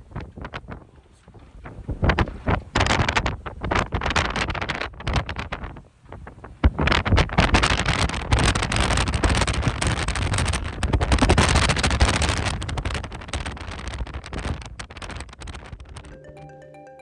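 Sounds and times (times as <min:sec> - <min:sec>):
wind buffeting microphone: 0:00.0 - 0:16.1.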